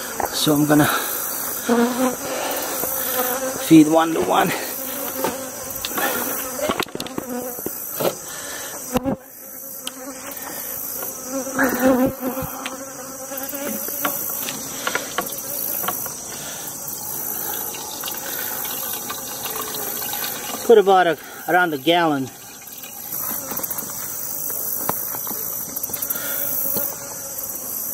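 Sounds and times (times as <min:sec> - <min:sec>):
honeybees buzzing: 0:00.0 - 0:27.9.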